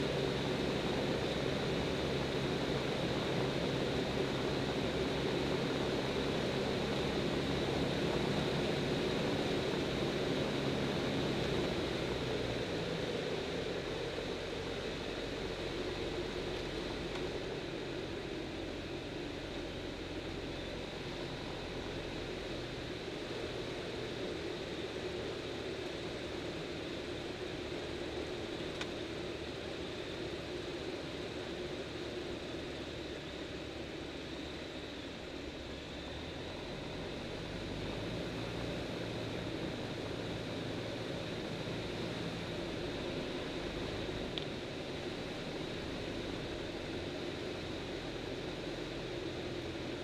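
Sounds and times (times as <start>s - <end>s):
light aircraft engine and propeller: 0.0s - 50.0s.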